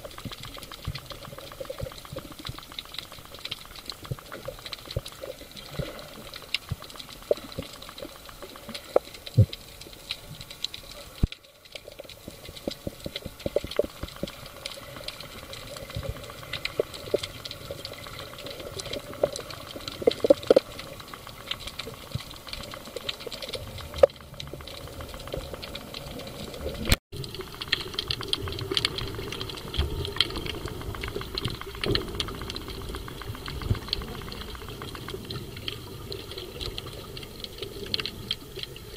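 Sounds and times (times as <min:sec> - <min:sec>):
underwater reef crackling: 0:00.0 - 0:38.9.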